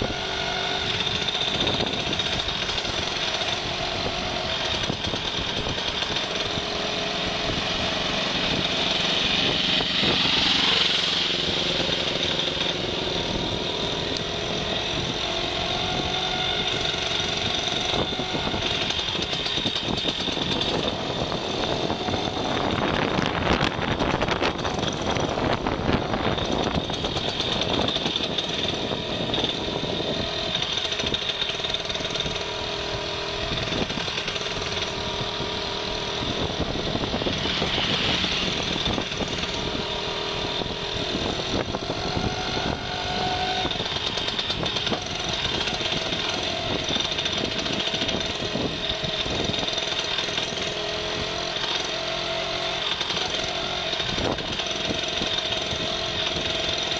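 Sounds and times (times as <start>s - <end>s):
wind rushing over microphone: 0.0s - 51.5s, 53.3s - 56.9s
rough rattling: 0.0s - 56.9s
vehicle engine running: 0.0s - 56.9s.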